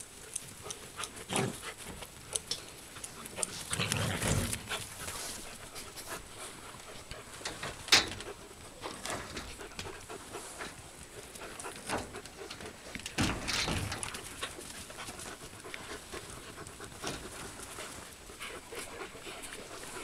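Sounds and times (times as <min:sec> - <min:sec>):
puppies playing rough: 0:00.0 - 0:20.0.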